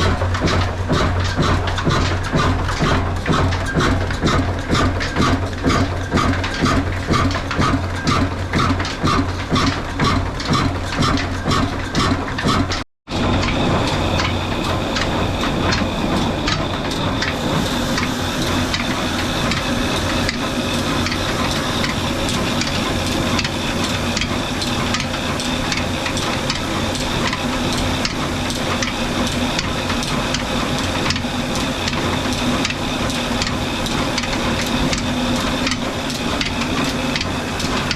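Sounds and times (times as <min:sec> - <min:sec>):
stationary diesel engine running: 0:00.0 - 0:37.9.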